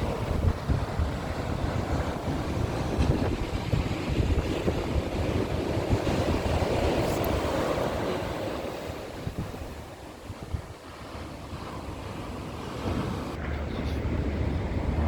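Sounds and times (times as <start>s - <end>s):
sea waves breaking on beach: 0.0s - 13.4s
wind buffeting microphone: 0.0s - 15.0s.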